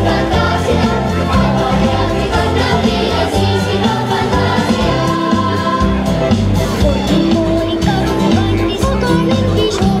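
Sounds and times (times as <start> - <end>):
upbeat dance music with singing: 0.0 - 10.0.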